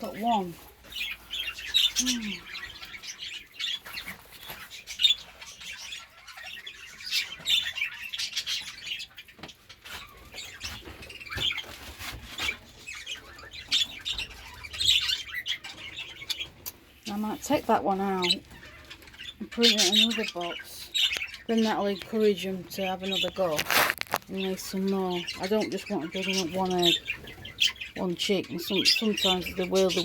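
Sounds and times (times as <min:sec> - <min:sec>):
budgerigars chattering and chirping: 0:00.0 - 0:30.0.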